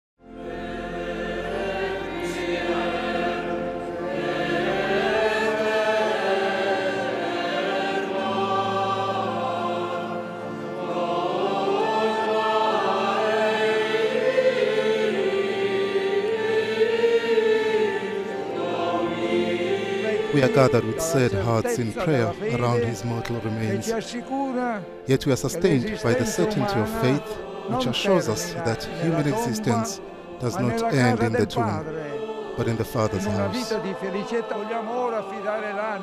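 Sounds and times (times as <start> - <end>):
choir singing a slow chant: 0.2 - 36.0.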